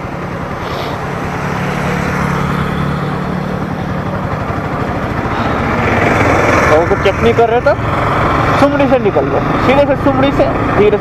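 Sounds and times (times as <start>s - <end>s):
motorcycle engine running: 0.0s - 11.0s
road noise: 0.0s - 11.0s.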